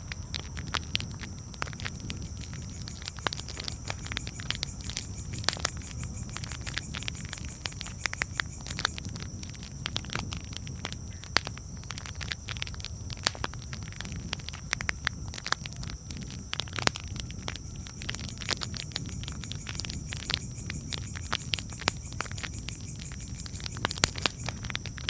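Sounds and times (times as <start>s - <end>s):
campfire crackling: 0.1s - 25.0s.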